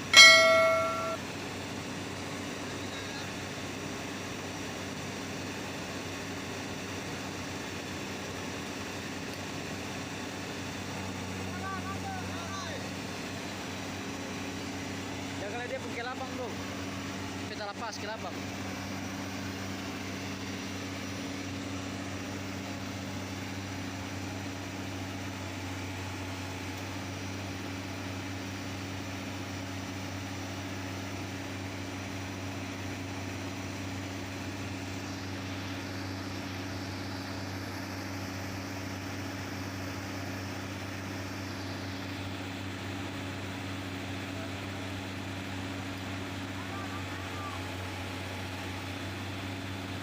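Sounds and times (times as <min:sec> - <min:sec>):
excavator diesel engines humming: 0:00.0 - 0:50.0.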